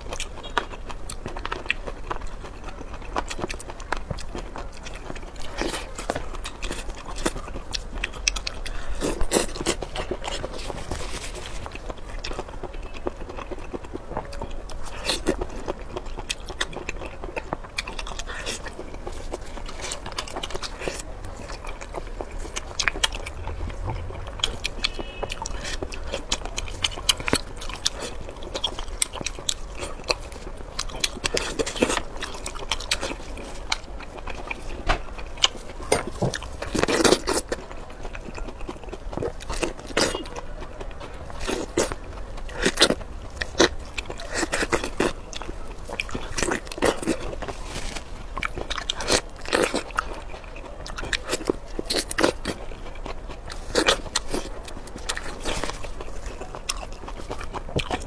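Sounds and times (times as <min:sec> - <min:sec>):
biting and chewing: 0:00.0 - 0:58.0.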